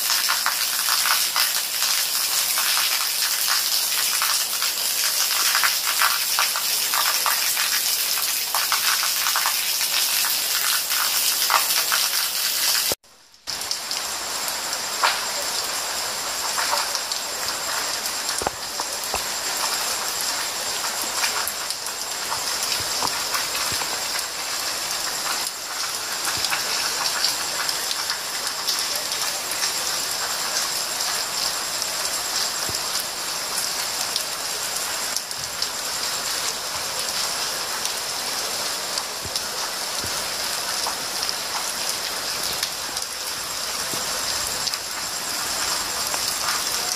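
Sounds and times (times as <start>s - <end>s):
rain drops ticking: 0.0s - 46.9s
rain falling on leaves: 0.0s - 46.9s.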